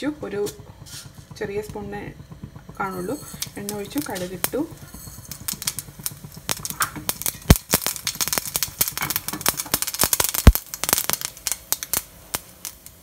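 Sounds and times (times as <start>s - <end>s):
mustard seeds popping in hot oil: 0.0s - 13.0s.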